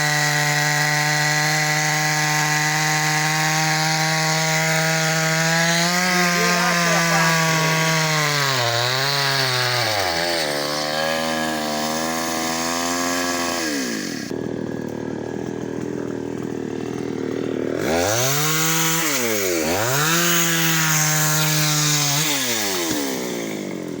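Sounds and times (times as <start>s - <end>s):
chainsaw cutting a tree: 0.0s - 24.0s.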